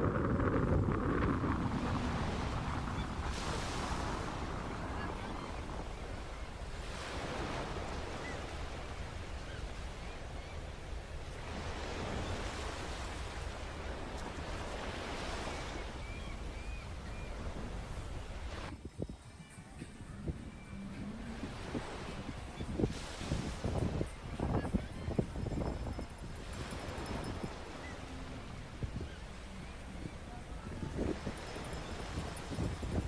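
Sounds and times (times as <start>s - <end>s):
ocean waves breaking on beach: 0.0s - 18.8s, 20.3s - 33.0s
wind buffeting microphone: 0.0s - 33.0s.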